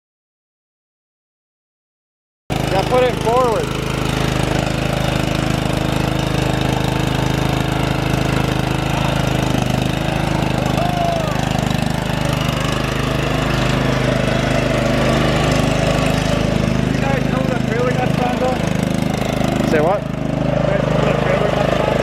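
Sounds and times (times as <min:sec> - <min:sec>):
lawn tractor engine running: 0:02.5 - 0:22.0.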